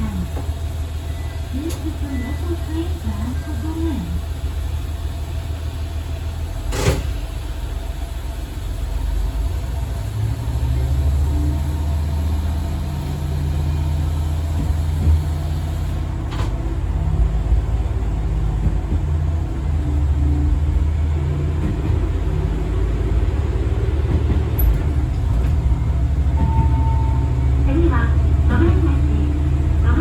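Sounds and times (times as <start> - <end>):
diesel engine drone: 0.0 - 30.0
wheels rumbling on rail: 0.0 - 30.0.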